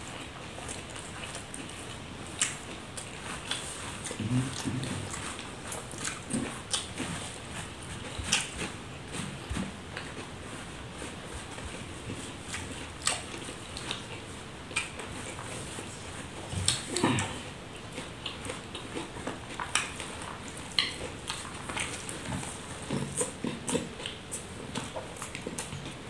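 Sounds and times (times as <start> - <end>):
chewing and lip-smacking: 0.0 - 26.0.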